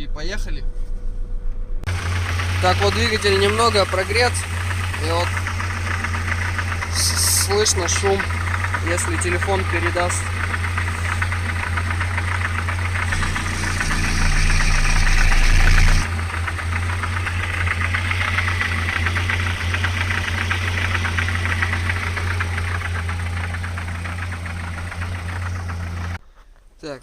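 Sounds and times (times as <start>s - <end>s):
petrol engine idling with knocking: 1.9s - 26.2s.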